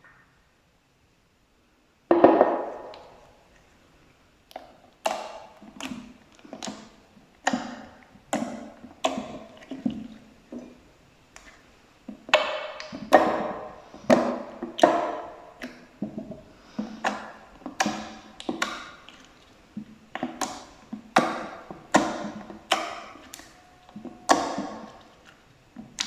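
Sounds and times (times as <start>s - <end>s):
slime squelching and popping: 4.4s - 26.0s.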